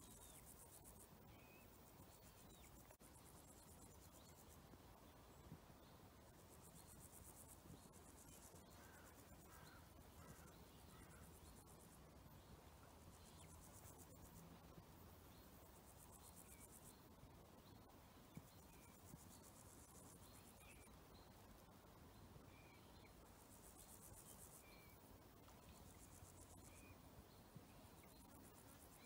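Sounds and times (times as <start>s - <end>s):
insect buzzy trill: 0.0s - 29.0s.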